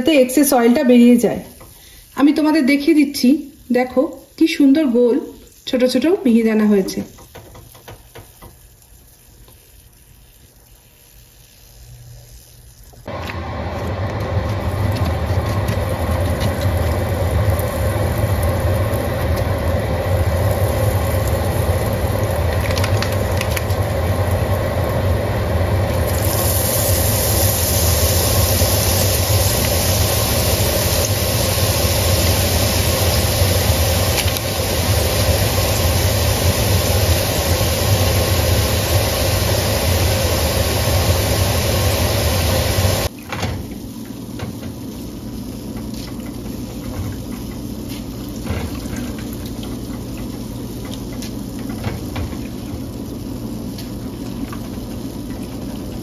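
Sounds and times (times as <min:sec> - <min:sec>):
hot oil sizzling: 0:00.0 - 0:56.0.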